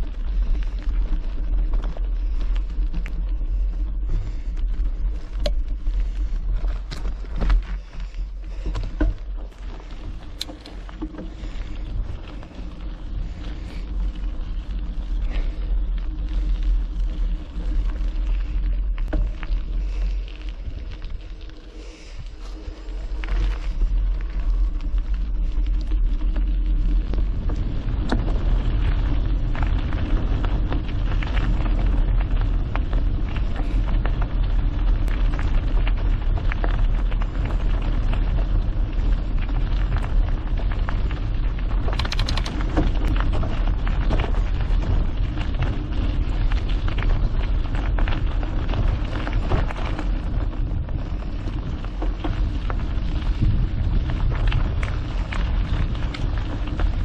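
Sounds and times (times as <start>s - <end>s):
bike tyres crunching on gravel: 0.0s - 57.0s
low rumble: 0.0s - 57.0s.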